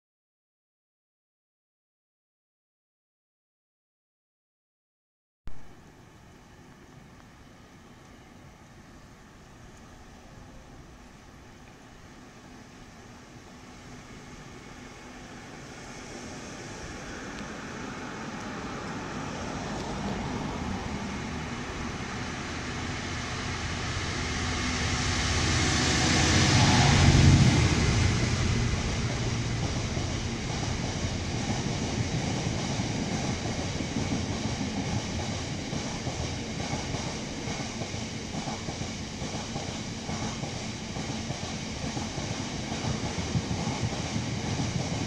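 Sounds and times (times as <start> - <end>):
diesel locomotive engine: 5.5 - 45.0
wagons rumbling over rails: 5.7 - 45.0.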